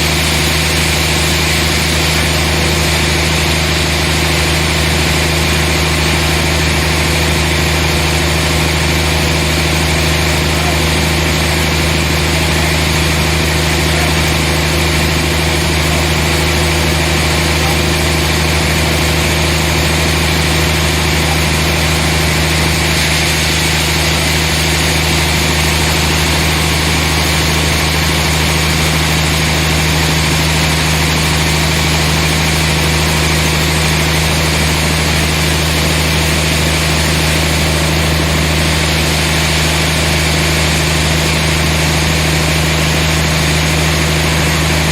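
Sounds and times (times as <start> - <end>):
sawmill machinery drone: 0.0 - 44.9.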